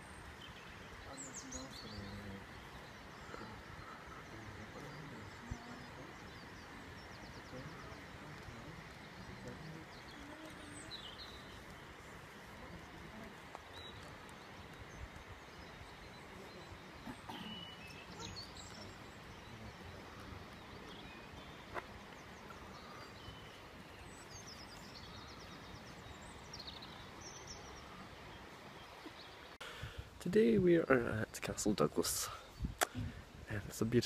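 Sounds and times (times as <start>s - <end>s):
songbird chirps: 0.0s - 34.0s.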